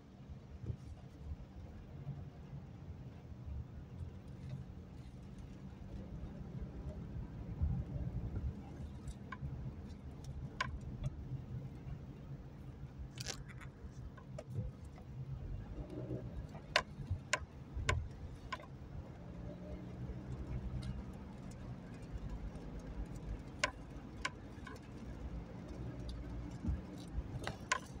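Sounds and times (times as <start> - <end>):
engine and tyres rumbling: 0.0 - 28.0.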